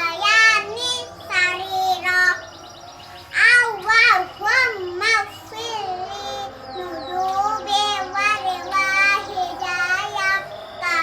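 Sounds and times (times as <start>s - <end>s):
child singing: 0.0s - 2.6s, 3.3s - 11.0s.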